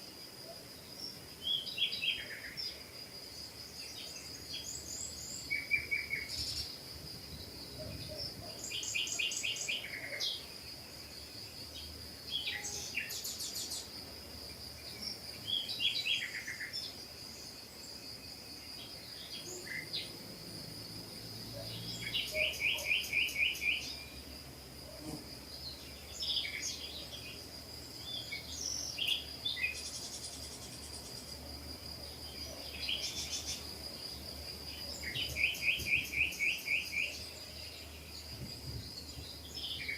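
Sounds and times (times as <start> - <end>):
small birds chirping and trilling: 0.8 - 20.2, 20.8 - 24.4, 25.4 - 39.9.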